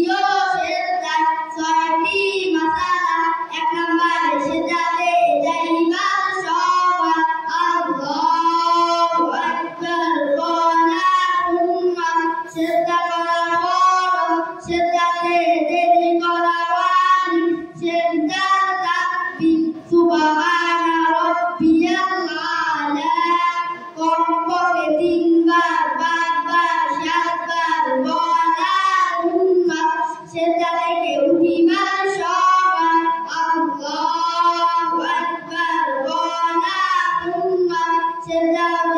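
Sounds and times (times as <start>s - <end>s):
boys singing into microphones: 0.0s - 38.9s.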